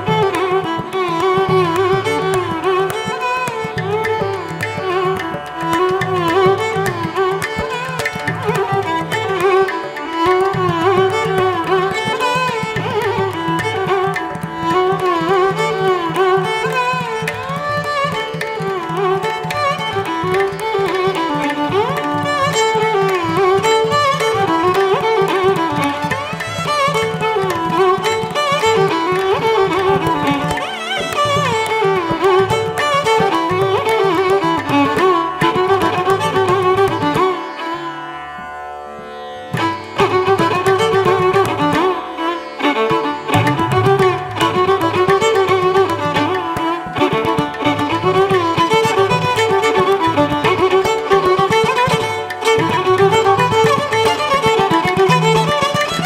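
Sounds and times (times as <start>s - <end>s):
gliding string melody: 0.0s - 56.0s.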